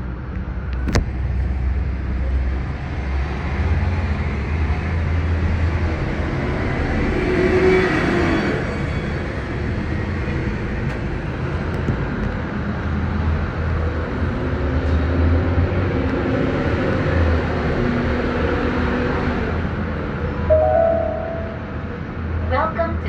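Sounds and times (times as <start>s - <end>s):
gondola cabin rumble and air: 0.0s - 23.0s.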